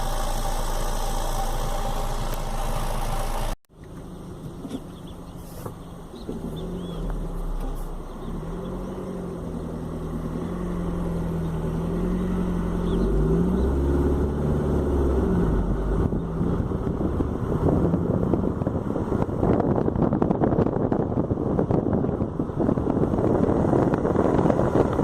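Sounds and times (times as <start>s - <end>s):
car engine exhaust running: 0.0s - 25.0s.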